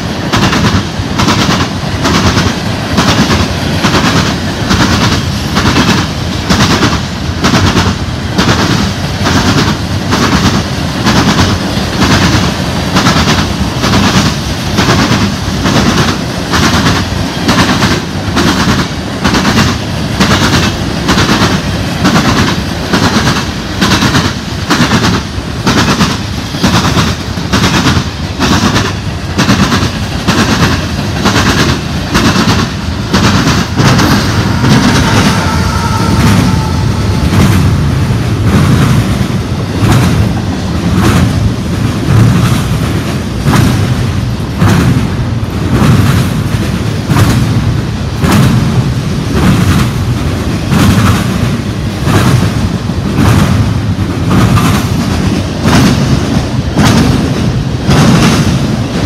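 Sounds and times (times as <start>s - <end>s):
freight train rumble: 0.0s - 59.0s
train wheels clacking over rail joints: 0.0s - 59.0s.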